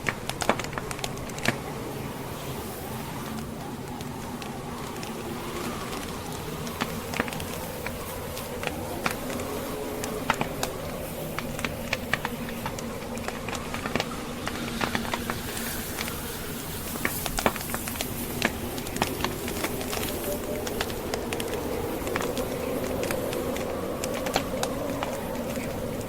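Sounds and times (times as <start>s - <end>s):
storm wind rushing: 0.0s - 26.0s
wood fire crackling and popping: 0.0s - 26.0s.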